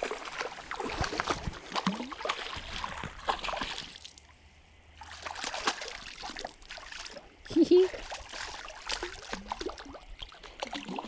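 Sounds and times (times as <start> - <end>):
eel splashing at water surface: 0.0 - 4.3, 5.0 - 11.0.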